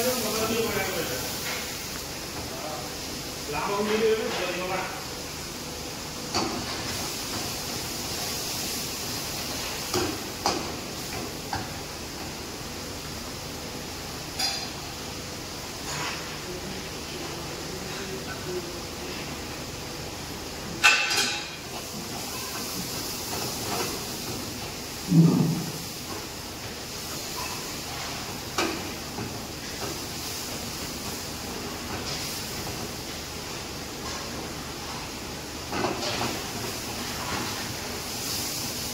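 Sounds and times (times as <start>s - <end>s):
food frying in a wok: 0.0s - 38.9s
gas stove hiss: 0.0s - 38.9s.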